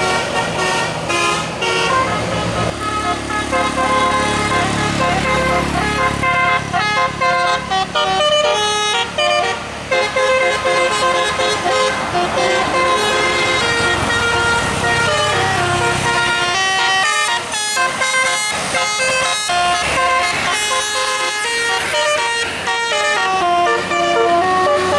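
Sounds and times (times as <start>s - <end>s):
bus engine running: 0.0s - 24.9s
musical air horn melody: 0.0s - 24.9s.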